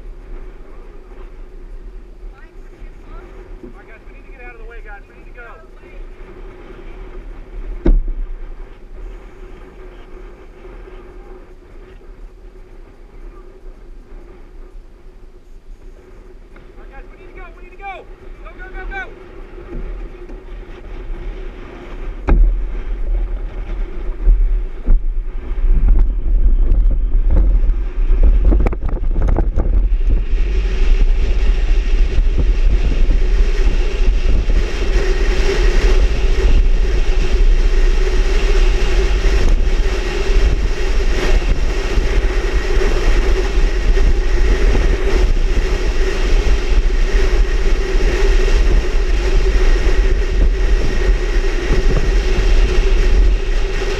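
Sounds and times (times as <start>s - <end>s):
rushing noise: 0.0s - 53.9s
wind buffeting microphone: 0.0s - 53.9s.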